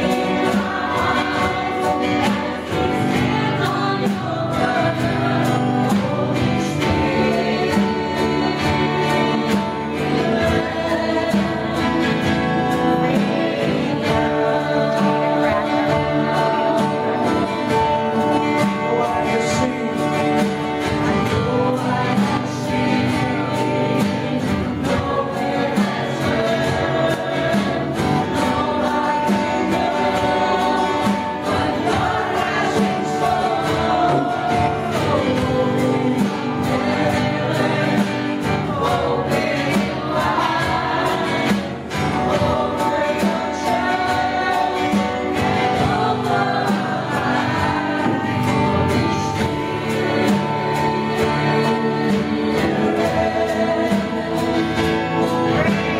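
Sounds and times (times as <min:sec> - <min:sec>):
congregation singing praise song: 0:00.0 - 0:55.9
instrumental accompaniment: 0:00.0 - 0:55.9.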